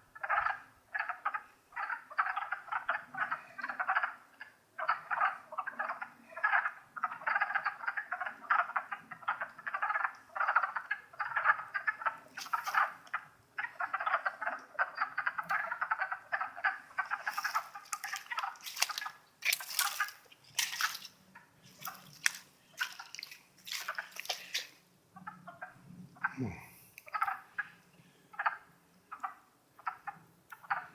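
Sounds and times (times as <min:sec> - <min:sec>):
frogs clucking chorus: 0:00.0 - 0:30.9.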